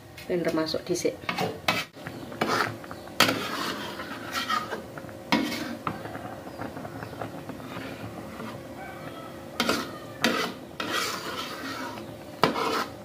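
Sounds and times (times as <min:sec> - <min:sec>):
metal spatula scraping a wok: 0:01.2 - 0:13.0.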